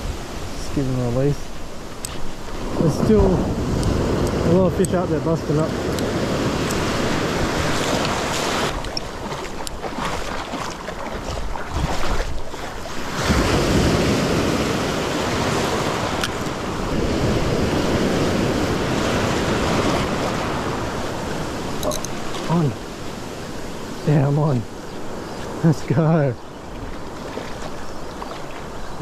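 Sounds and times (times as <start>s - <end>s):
small surf waves breaking: 0.0s - 29.0s
wind buffeting microphone: 0.0s - 29.0s.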